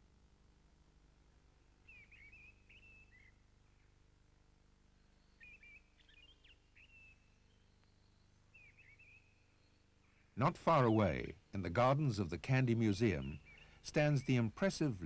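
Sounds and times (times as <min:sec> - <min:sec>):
low steady hum: 0:00.0 - 0:15.0
faint birdsong: 0:01.2 - 0:15.0.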